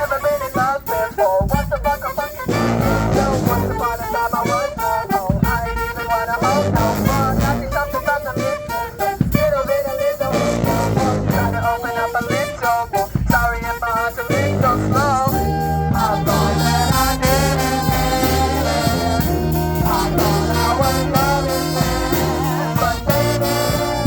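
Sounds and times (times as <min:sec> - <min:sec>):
horns playing melody: 0:00.0 - 0:24.0
steady drum beat: 0:00.0 - 0:24.0.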